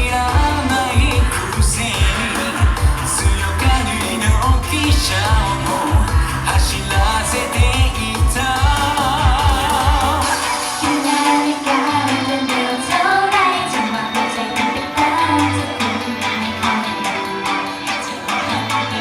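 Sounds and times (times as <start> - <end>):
bass: 0.0 - 19.0
woman singing pop song: 0.0 - 19.0.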